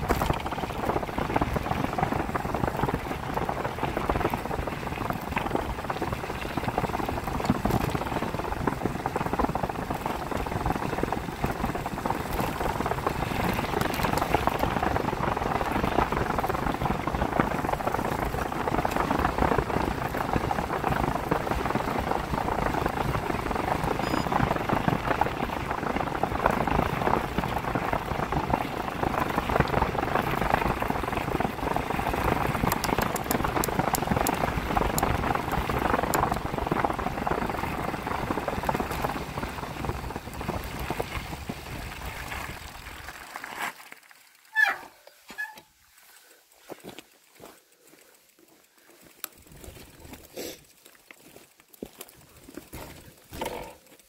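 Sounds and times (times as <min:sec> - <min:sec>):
camera rumble: 0:00.0 - 0:43.3
bicycle tyres rolling on wet dirt: 0:00.0 - 0:54.0.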